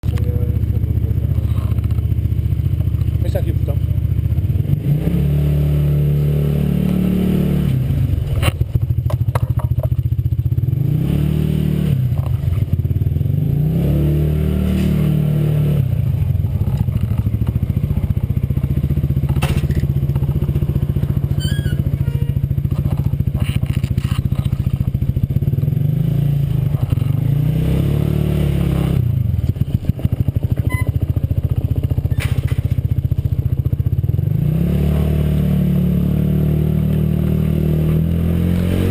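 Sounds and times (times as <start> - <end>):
scooter engine revving: 0.1 - 38.9.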